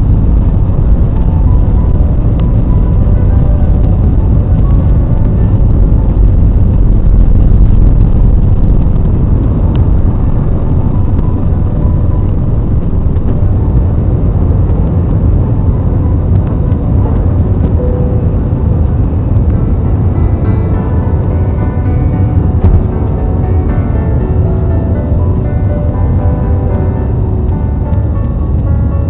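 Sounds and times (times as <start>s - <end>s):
airliner cabin engine roar: 0.0s - 29.0s.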